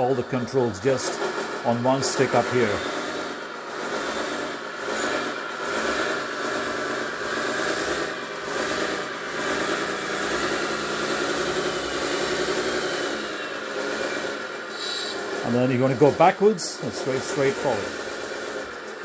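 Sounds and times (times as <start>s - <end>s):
simulated diesel engine sound: 0.0s - 19.0s.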